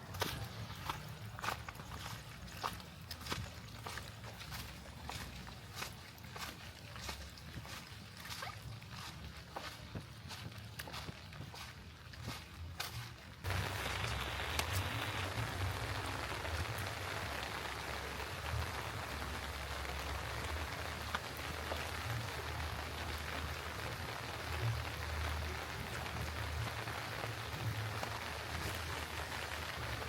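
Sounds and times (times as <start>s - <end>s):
rain spattering on surfaces: 0.0s - 30.0s.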